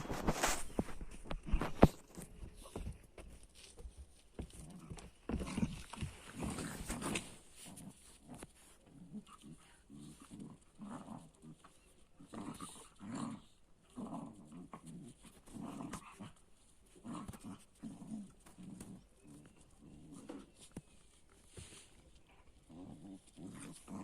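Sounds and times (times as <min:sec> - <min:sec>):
dogs growling while play-fighting: 0:04.4 - 0:24.0.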